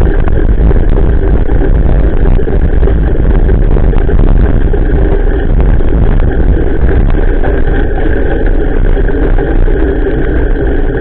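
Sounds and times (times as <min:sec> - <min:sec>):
bicycle tyre noise on wet path: 0:00.0 - 0:11.0
wind buffeting microphone: 0:00.0 - 0:11.0.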